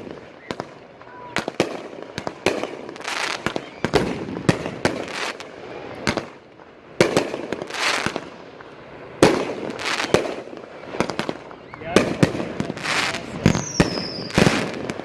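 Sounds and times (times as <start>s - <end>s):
fireworks cake bangs: 0.0s - 5.4s, 7.0s - 8.3s, 9.2s - 15.0s.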